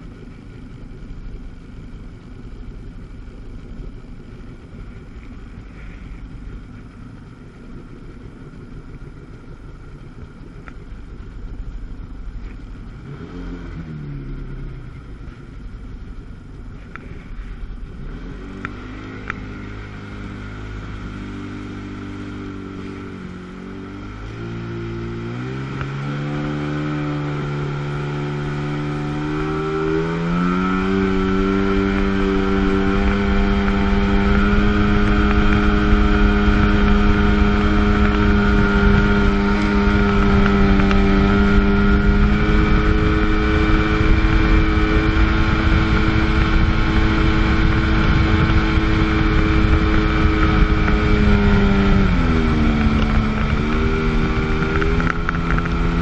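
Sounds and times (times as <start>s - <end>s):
jet ski engine accelerating: 0.0s - 56.0s.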